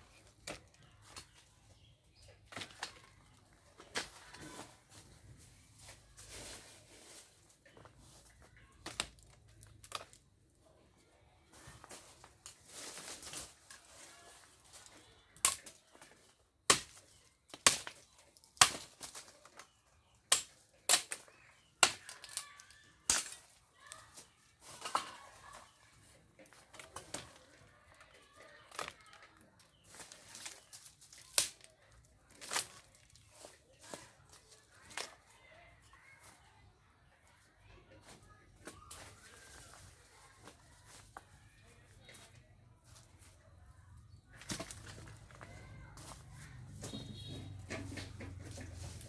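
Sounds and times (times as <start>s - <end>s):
faint background noise: 0.0s - 49.0s.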